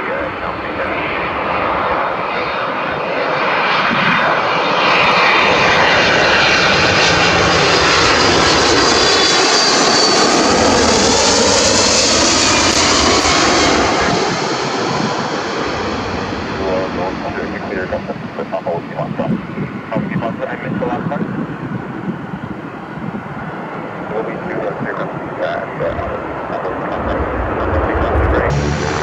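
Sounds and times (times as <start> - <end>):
jet aircraft flying past: 0.0 - 29.0.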